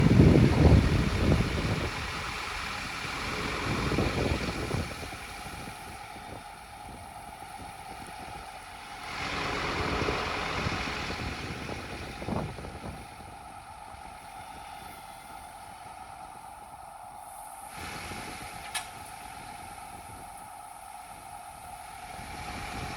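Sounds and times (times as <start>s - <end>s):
truck diesel engine idling: 0.0s - 19.4s
wind buffeting microphone: 0.0s - 22.9s.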